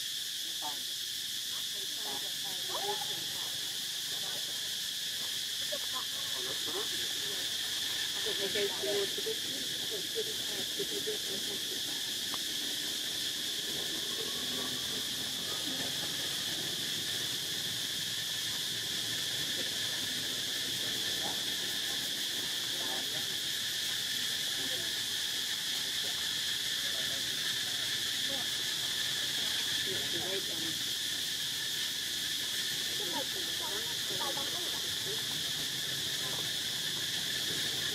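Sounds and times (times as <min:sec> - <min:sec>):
insects buzzing: 0:00.0 - 0:37.9.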